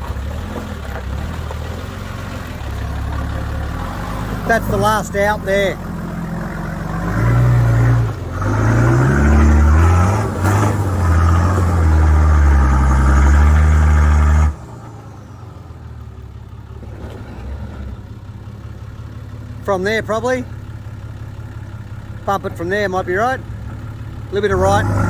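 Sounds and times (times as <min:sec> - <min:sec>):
engine revving and idling: 0:00.0 - 0:25.0.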